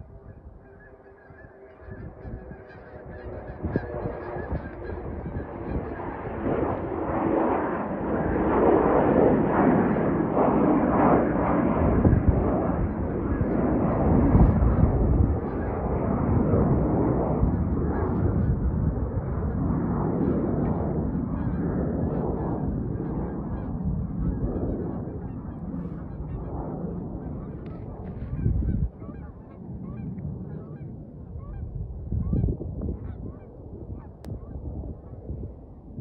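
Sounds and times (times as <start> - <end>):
jet engines roaring on takeoff: 0.0 - 36.0.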